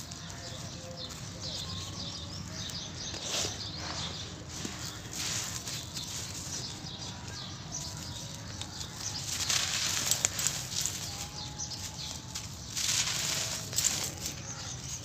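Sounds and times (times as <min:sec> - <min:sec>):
lumps crunching: 0:00.0 - 0:15.0.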